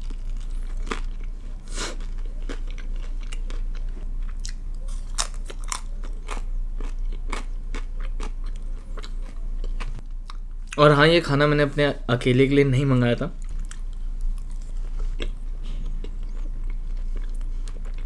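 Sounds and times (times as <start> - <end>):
person chewing crunchy food: 0.0 - 10.4, 13.4 - 18.0.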